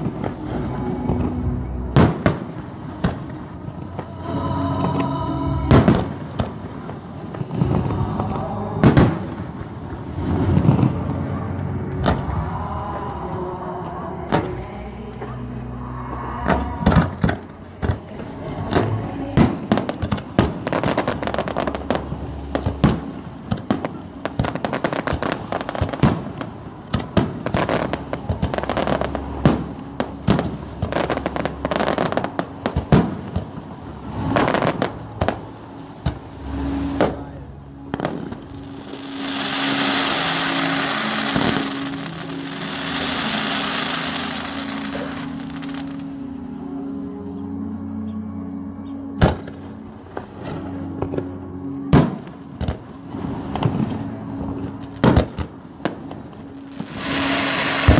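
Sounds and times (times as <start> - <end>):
fireworks bangs and crackles: 0.0 - 12.6, 16.4 - 46.1, 49.2 - 57.9
low hum: 0.0 - 57.9.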